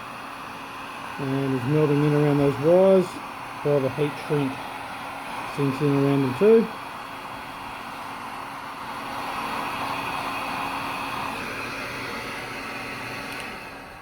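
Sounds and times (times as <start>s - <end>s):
heat gun blowing hot air: 0.0s - 14.0s.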